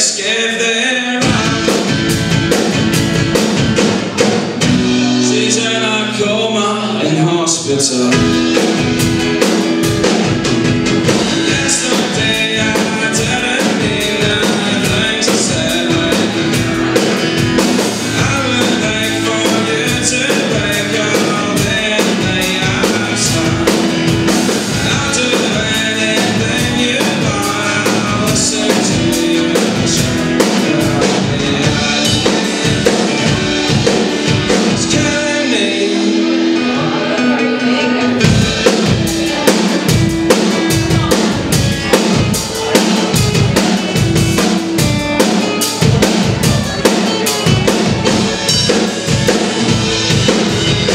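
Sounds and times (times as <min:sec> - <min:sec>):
man singing: 0:00.0 - 0:03.0, 0:04.6 - 0:50.9
acoustic guitar: 0:00.0 - 0:50.9
drum kit playing: 0:01.2 - 0:50.9.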